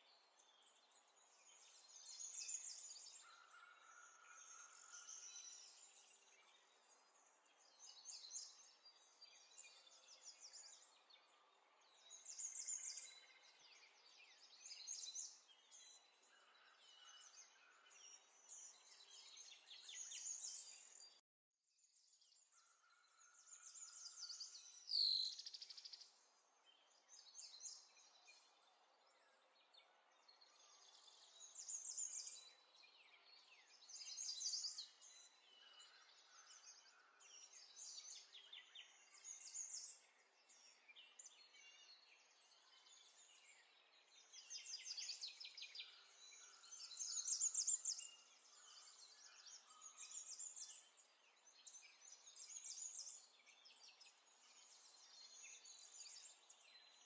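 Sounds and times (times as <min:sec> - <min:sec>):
faint birdsong trills: 0:00.0 - 0:57.0.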